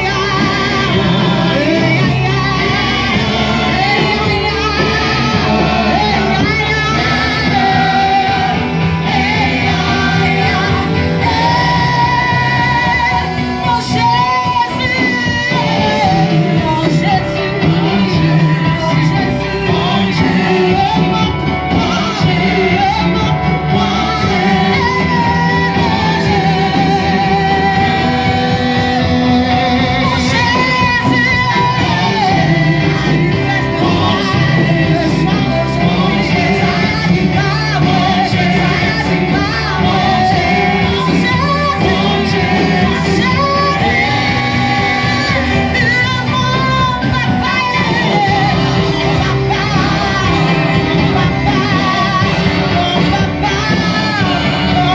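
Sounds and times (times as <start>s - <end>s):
voices singing worship music: 0.0s - 54.9s.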